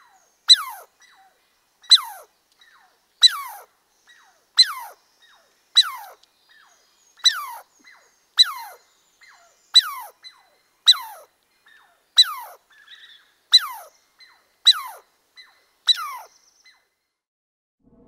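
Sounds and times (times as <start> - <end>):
squirrel alarm chirps: 0.5 - 16.9.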